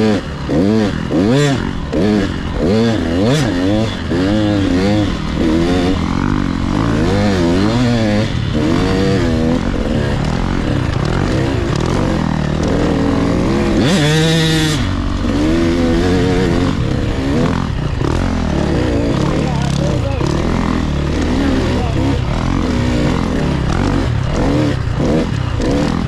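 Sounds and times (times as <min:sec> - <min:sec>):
two-stroke dirt bike engine revving: 0:00.0 - 0:26.0.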